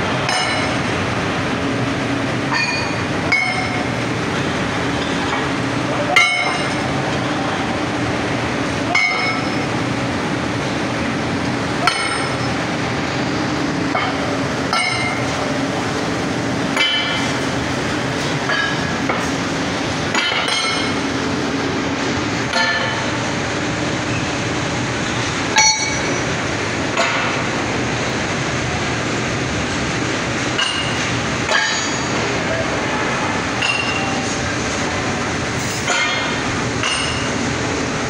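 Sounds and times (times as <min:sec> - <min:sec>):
mill machinery drone: 0:00.0 - 0:38.0.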